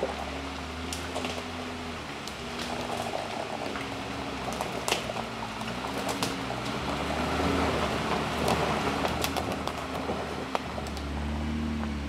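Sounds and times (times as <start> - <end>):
car engine at low revs: 0.0 - 12.0
sticks cracking under tyres: 0.8 - 1.5, 2.2 - 12.0.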